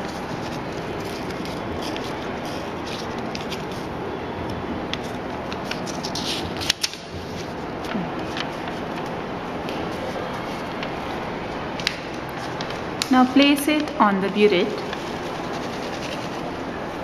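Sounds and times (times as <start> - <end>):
paper rustling and crinkling: 0.0 - 4.0, 4.9 - 13.1, 14.7 - 17.0
steady room hiss: 0.0 - 17.0.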